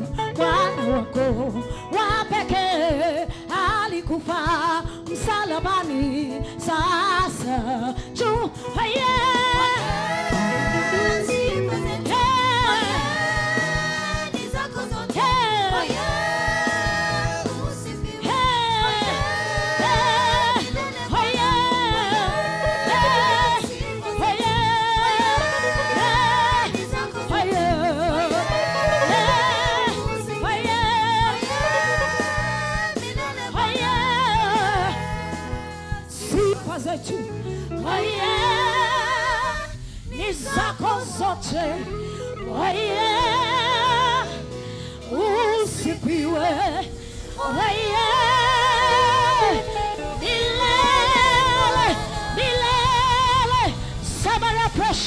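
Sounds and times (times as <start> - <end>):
instrumental backing: 0.0 - 55.0
person singing with vibrato: 0.0 - 55.0.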